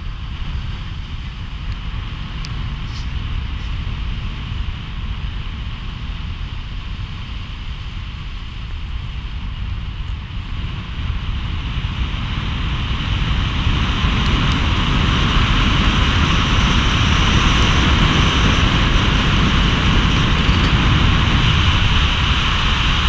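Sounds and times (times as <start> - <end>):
low rumble on microphone: 0.0 - 23.0
tyres hissing on wet road: 0.0 - 23.0.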